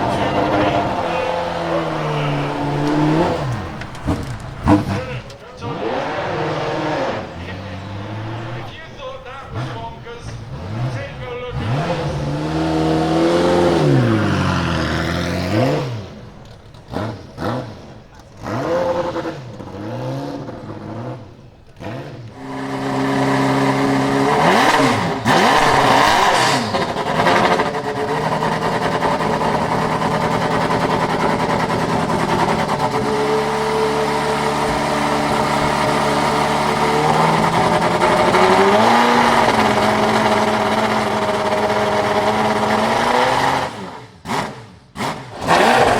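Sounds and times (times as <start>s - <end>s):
sports car engine revving: 0.0s - 45.9s.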